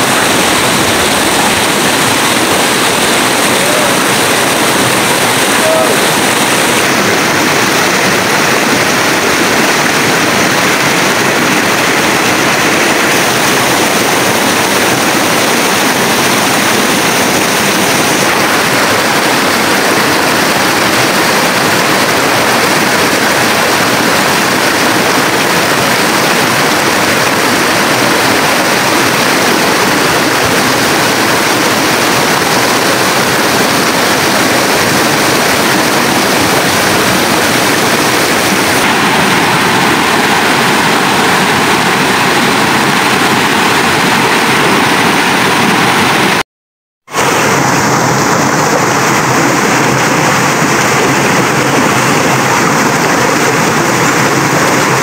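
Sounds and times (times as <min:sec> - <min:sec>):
river rushing over rocks: 0:00.0 - 0:46.4, 0:47.1 - 0:55.0.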